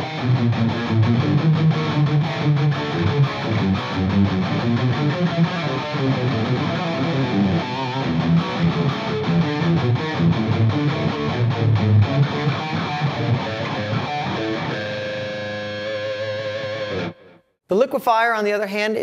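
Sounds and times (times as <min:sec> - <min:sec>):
electric guitar picked notes: 0:00.0 - 0:17.5.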